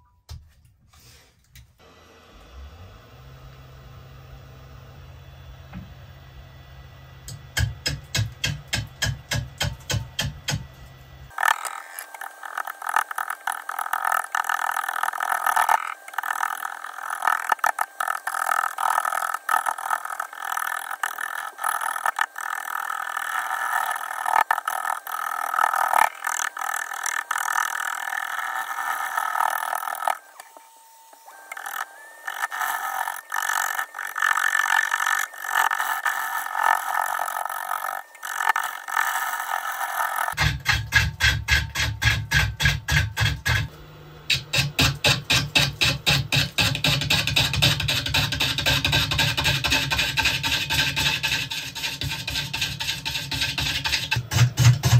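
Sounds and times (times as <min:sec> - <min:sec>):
gouge cutting wood on lathe: 0:01.8 - 0:54.9.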